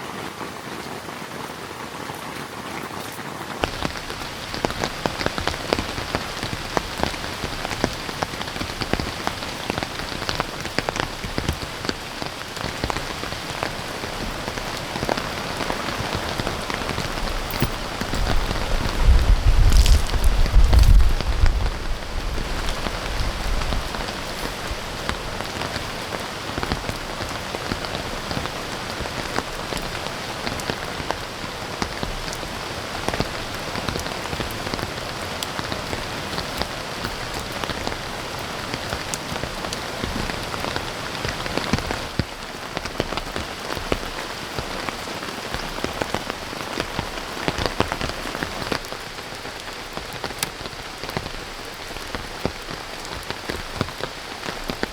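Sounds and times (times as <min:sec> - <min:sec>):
rain hiss: 0:03.6 - 0:54.9
raindrops ticking close by: 0:03.6 - 0:54.9.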